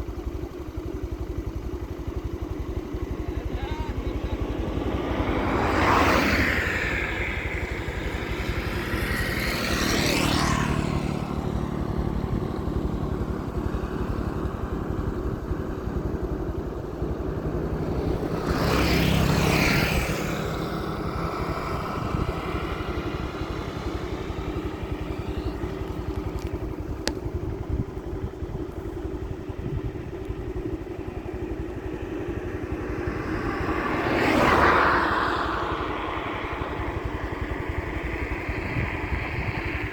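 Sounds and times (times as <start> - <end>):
vehicle engine and road noise: 0.0 - 39.9
vehicles passing by: 0.0 - 39.9.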